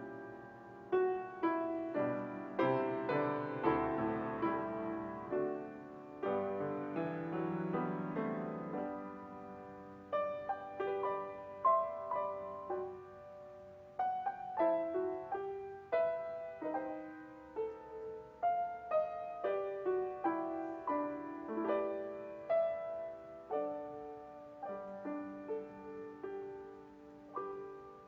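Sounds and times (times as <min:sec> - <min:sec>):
slow gentle piano piece: 0:00.0 - 0:28.0.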